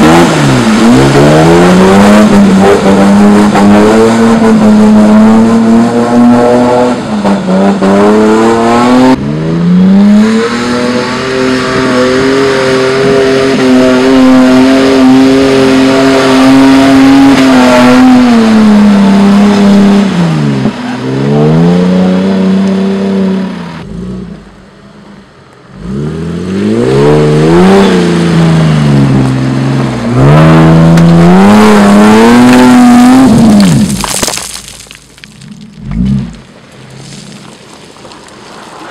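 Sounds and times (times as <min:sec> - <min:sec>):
engine and exhaust revving: 0:00.0 - 0:34.0.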